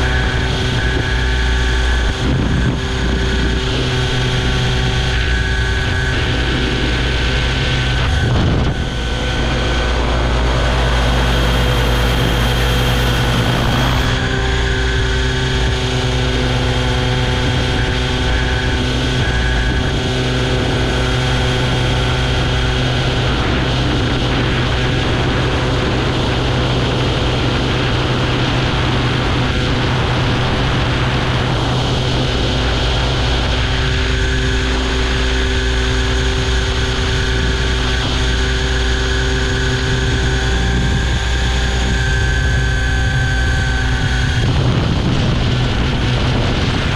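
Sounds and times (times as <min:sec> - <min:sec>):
electric motor whine: 0:00.0 - 0:46.9
rotor blades: 0:00.0 - 0:46.9
wind rush on microphone: 0:00.0 - 0:46.9.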